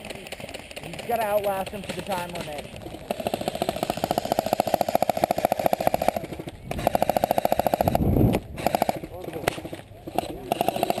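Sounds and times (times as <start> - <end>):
airsoft rifle firing bursts: 0.0 - 11.0.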